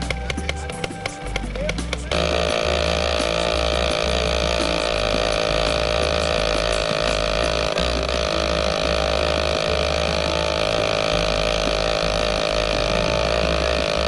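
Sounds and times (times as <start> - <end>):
helicopter engine chugging: 0.0 - 14.0.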